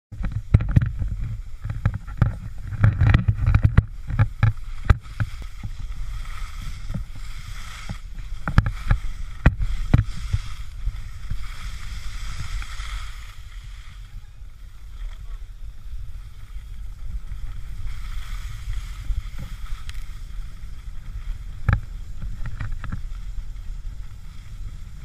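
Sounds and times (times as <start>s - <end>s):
wind buffeting microphone: 0.1s - 25.0s
skis hissing over snow: 0.4s - 2.7s, 3.7s - 25.0s.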